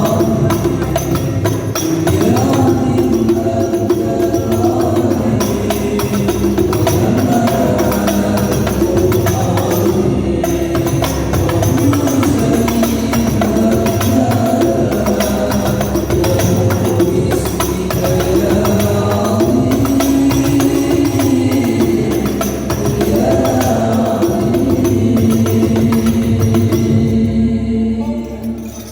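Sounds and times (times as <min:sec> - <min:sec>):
frame drums beating: 0:00.0 - 0:27.2
sustained devotional melody: 0:00.0 - 0:28.9.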